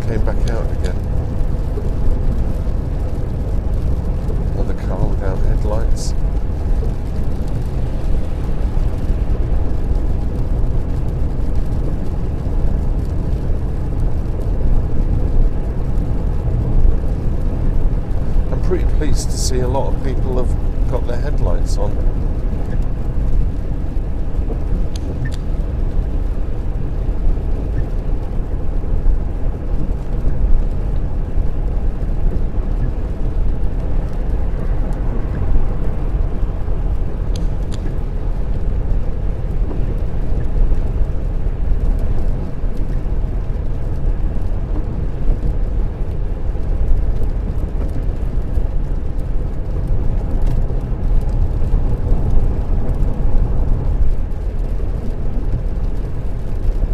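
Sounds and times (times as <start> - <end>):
car engine: 0.0 - 56.9
car interior road noise: 0.0 - 56.9
low rumble of tyres: 0.0 - 56.9
wind noise: 0.0 - 56.9.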